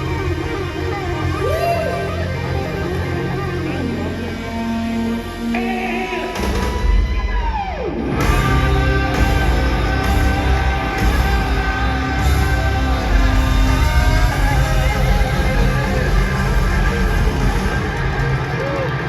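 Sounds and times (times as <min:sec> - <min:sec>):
live rock band playing loudly: 0:00.0 - 0:19.0.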